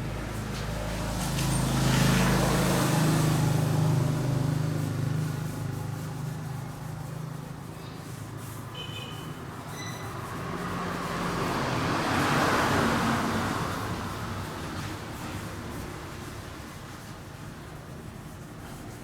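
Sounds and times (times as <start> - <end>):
vehicle engine passing: 0.0 - 8.7, 9.5 - 18.4.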